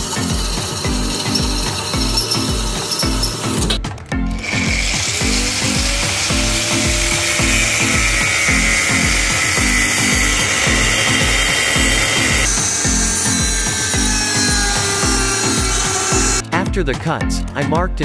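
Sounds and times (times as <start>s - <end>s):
angle grinder cutting steel: 0.0s - 16.4s
background music with beat: 0.0s - 18.0s.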